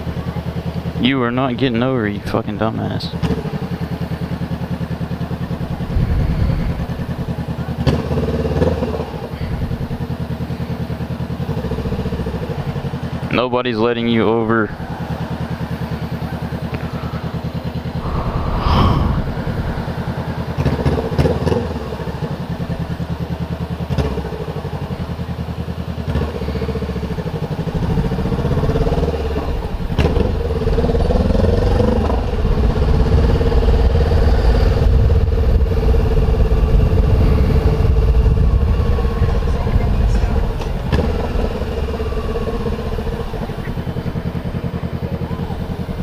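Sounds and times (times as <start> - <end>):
motorcycle engine running: 0.0 - 18.3, 19.4 - 46.0.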